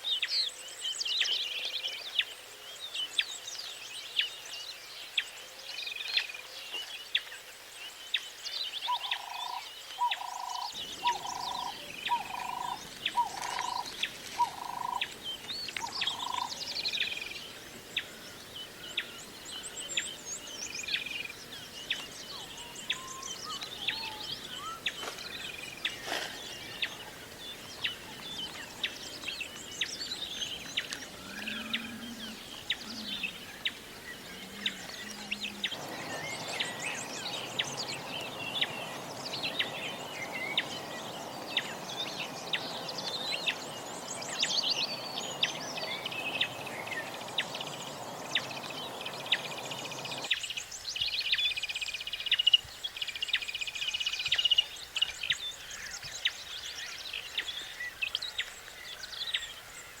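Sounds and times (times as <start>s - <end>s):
small birds chirping and trilling: 0.0s - 60.0s
steady hiss-like background noise: 0.0s - 60.0s.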